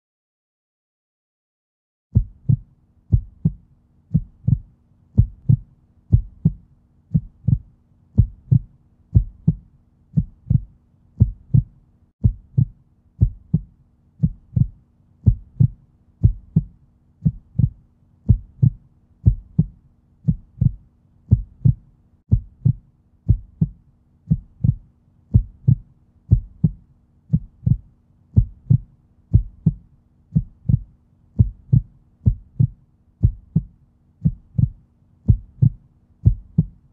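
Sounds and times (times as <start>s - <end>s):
heartbeat thumps: 2.1s - 36.9s.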